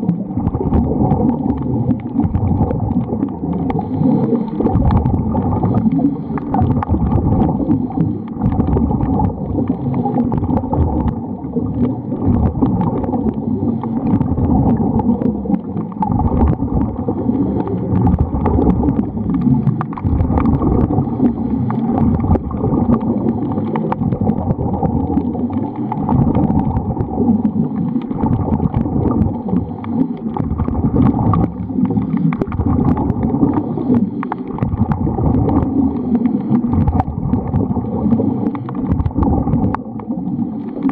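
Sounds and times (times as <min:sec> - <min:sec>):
muffled underwater rumbling water: 0:00.0 - 0:40.9.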